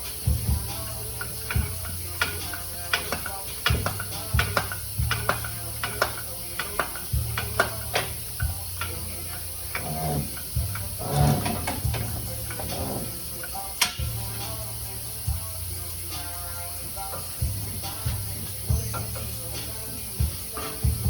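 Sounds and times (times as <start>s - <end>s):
metal hand tools clinking: 0.0s - 21.0s.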